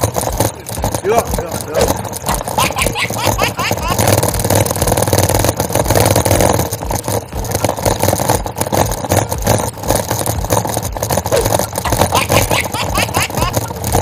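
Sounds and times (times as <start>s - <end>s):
bicycle rattling over cobblestones: 0.0s - 14.0s.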